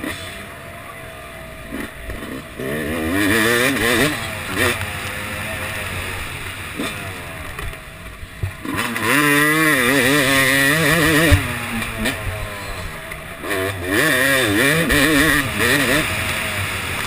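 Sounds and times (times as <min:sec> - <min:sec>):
motocross engine revving: 0:00.0 - 0:17.0.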